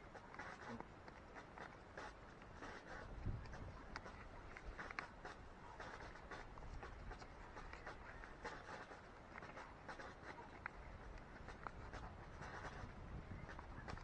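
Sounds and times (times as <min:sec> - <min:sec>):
light ticks of seed packet: 0:00.1 - 0:14.0.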